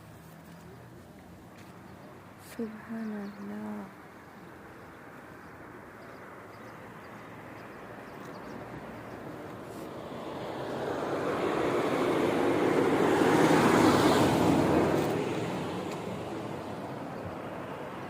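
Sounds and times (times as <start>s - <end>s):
road vehicle passing by: 0.0s - 18.0s.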